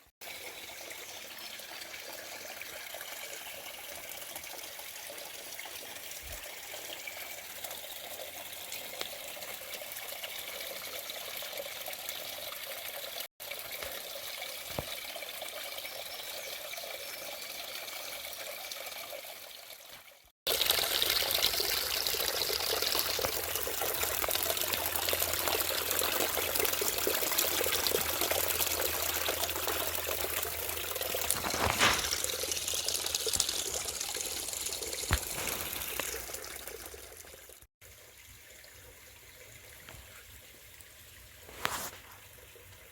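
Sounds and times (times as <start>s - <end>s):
creek water trickling: 0.2s - 42.9s.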